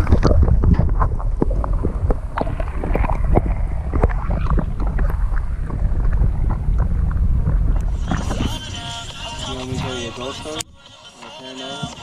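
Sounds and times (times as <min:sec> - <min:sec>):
water splashing against boat: 0:00.0 - 0:10.6
wind rumbling on microphone: 0:00.0 - 0:10.8.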